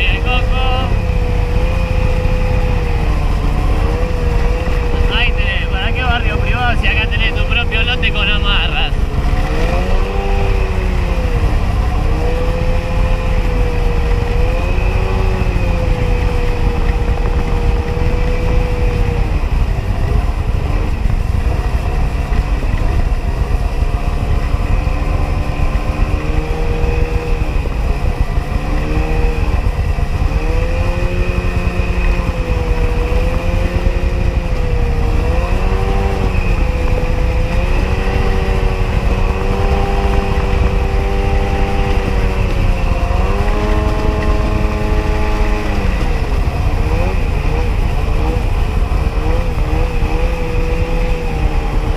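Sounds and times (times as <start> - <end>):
jet ski engine revving: 0.0 - 51.9.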